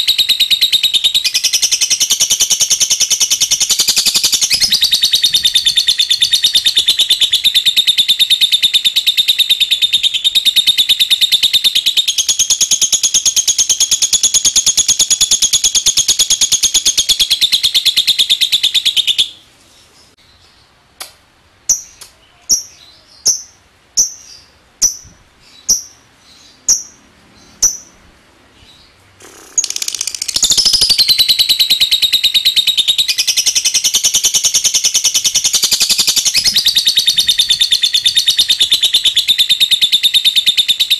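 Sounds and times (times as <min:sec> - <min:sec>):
lovebird chattering trill: 0:00.0 - 0:19.4, 0:21.7 - 0:28.0, 0:28.6 - 0:40.9.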